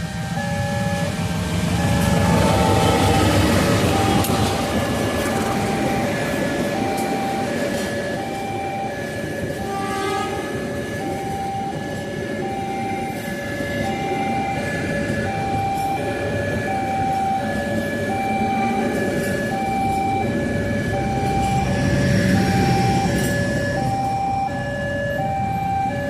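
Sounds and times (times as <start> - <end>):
level crossing two-tone alarm: 0.0 - 26.0
train rumble: 0.0 - 26.0.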